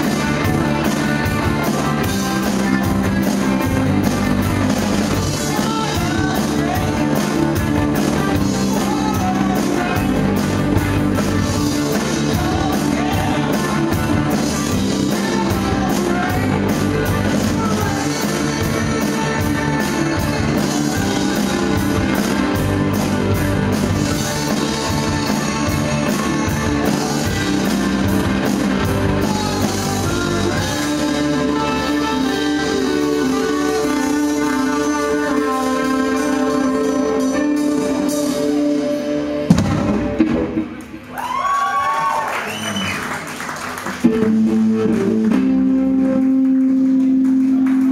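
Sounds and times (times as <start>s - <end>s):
drum kit beat: 0.0s - 41.4s, 43.8s - 47.9s
bass guitar: 0.0s - 47.9s
electric guitars: 0.0s - 47.9s.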